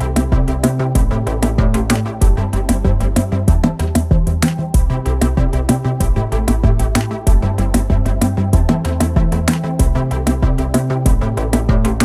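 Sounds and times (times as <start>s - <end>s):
held bass line: 0.0s - 12.0s
quick percussive beat: 0.0s - 12.0s.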